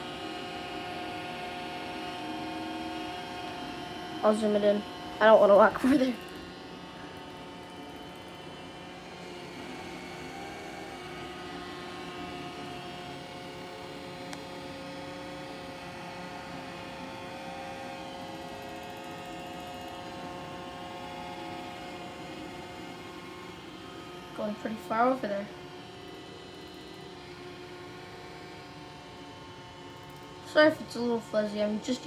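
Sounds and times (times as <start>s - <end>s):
robot vacuum motor hum: 0.0s - 32.0s.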